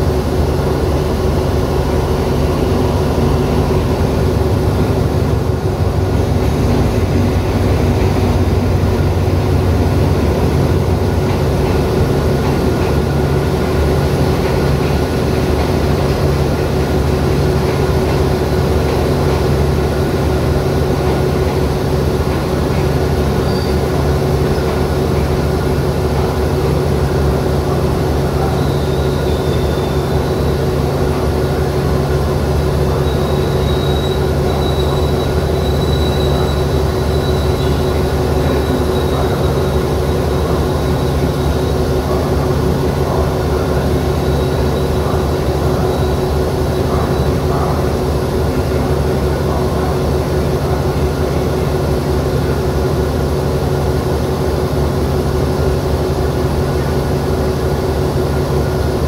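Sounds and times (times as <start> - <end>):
locomotive engine idling: 0.0 - 59.0.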